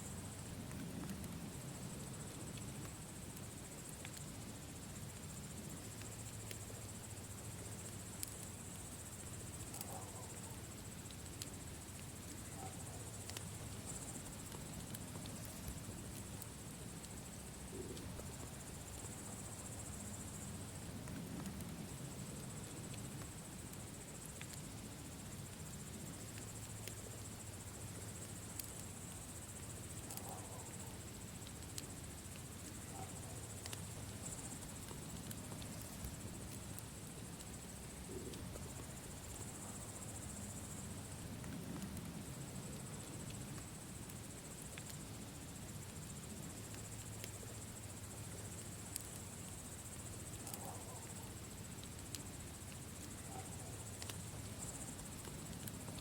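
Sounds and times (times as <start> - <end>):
insects chirring: 0.0 - 56.0
campfire crackling and popping: 0.1 - 56.0.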